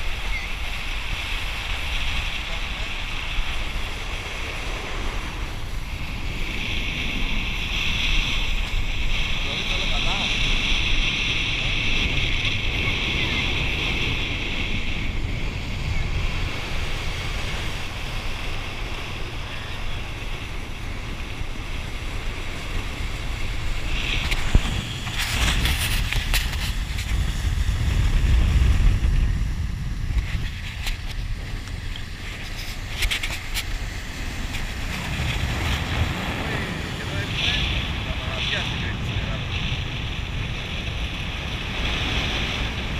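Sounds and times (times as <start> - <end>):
rushing water: 0.0 - 42.9
speedboat engine rumble: 0.0 - 42.9
wind buffeting on microphone: 0.0 - 42.9.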